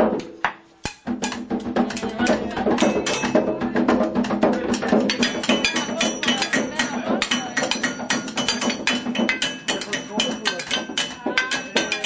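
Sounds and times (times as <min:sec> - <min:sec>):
drumming on kitchen objects: 0:00.0 - 0:12.0.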